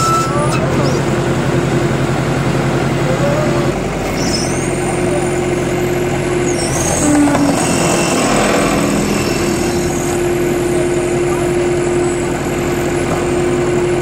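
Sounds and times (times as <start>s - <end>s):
log splitter engine running: 0.0s - 14.0s.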